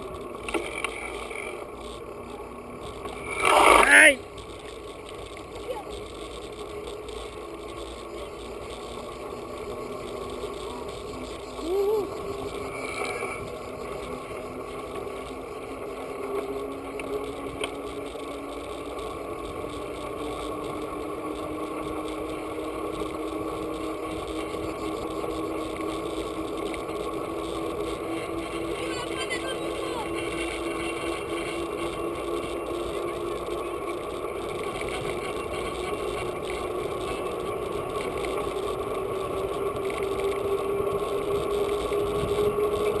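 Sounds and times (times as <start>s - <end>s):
bicycle tyres on asphalt: 0.0s - 43.0s.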